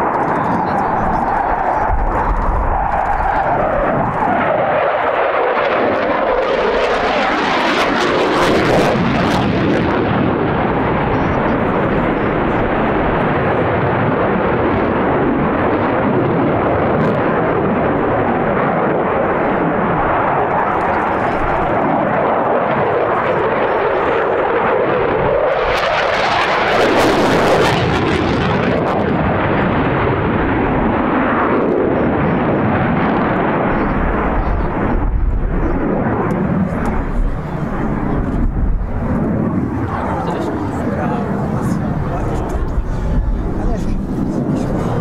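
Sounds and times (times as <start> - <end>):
jet fighter roaring: 0.0 - 45.0.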